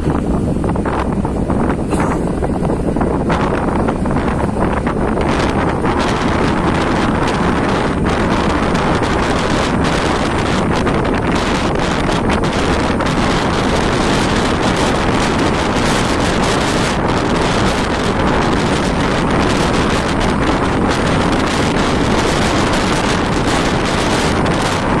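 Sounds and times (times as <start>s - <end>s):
bus engine: 0.0s - 25.0s
road noise: 0.0s - 25.0s
wind buffeting microphone: 0.0s - 25.0s.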